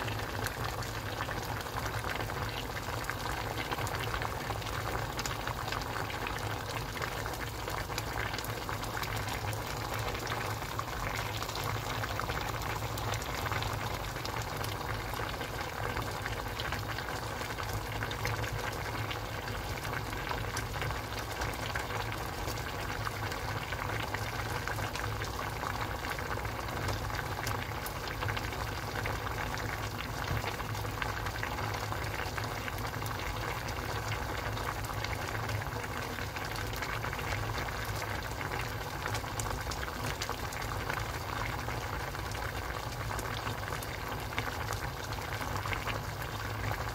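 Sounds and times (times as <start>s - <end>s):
stew bubbling at a boil: 0.0s - 46.9s.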